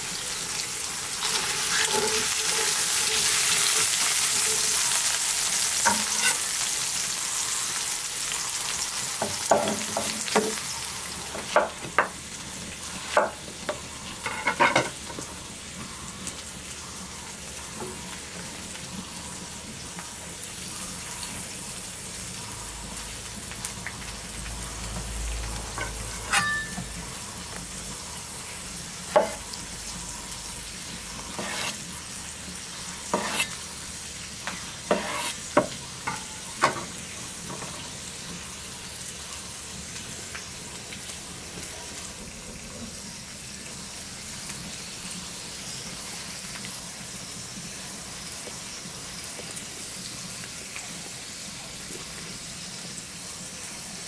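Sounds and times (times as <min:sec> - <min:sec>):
meat sizzling in oil: 0:00.0 - 0:54.0.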